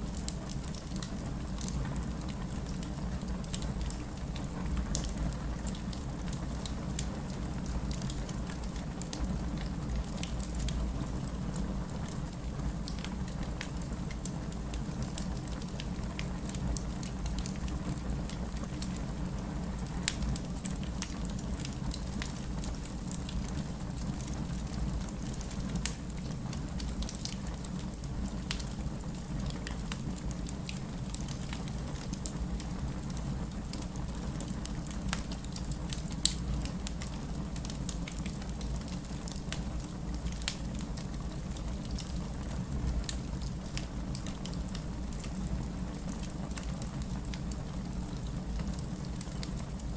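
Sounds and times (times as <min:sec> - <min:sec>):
burning wood crackling and popping: 0:00.0 - 0:49.9
fire rumbling in fireplace: 0:00.0 - 0:49.9.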